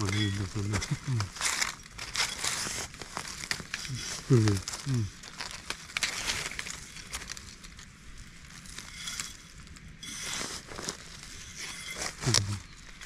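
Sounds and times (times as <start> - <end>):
leaves and twigs crackling: 0.0 - 13.0.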